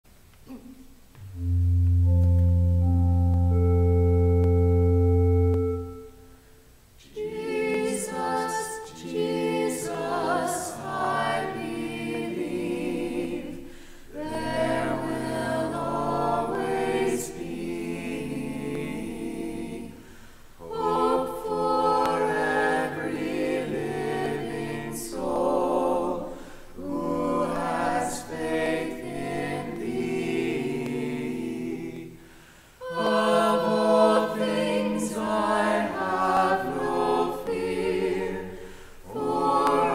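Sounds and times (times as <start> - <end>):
vocal group singing a hymn: 7.0 - 39.9.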